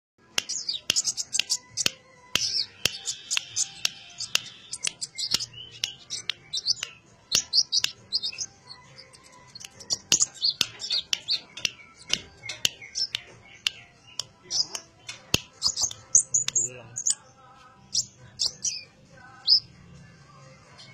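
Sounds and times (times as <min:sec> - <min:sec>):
sharp ticks: 0:00.4 - 0:17.2
bird twittering and chirping: 0:00.4 - 0:19.7.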